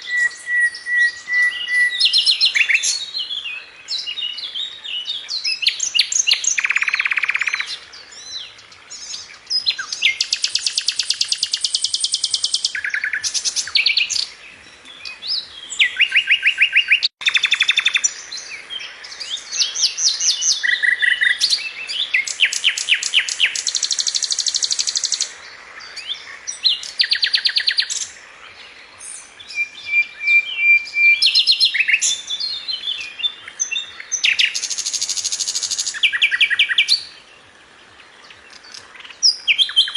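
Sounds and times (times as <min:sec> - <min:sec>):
birds trilling and chirping: 0:00.0 - 0:39.9.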